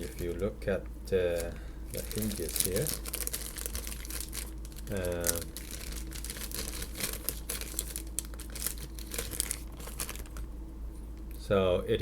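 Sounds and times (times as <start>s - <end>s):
packaging crinkling: 0.0s - 0.5s, 1.4s - 10.5s.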